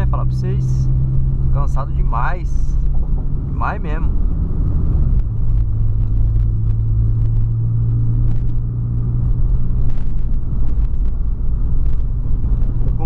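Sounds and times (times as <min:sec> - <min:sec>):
car engine hum: 0:00.0 - 0:13.0
road rumble: 0:00.0 - 0:13.0.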